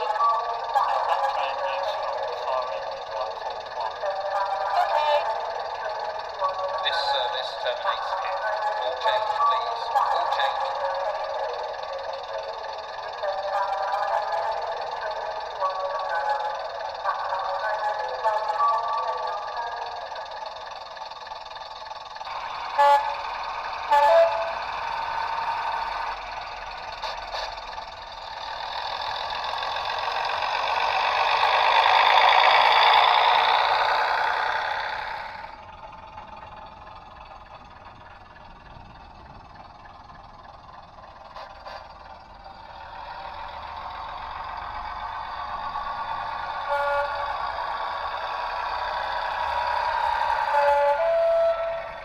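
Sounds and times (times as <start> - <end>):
model train diesel engine sound: 0.0 - 52.0.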